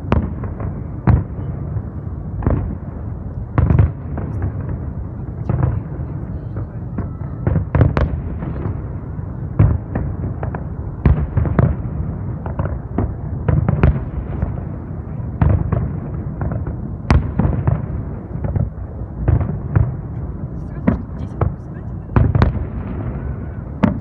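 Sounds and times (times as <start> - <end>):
distant explosions rumbling: 0.0 - 24.0
fireworks loud bangs: 0.0 - 24.0.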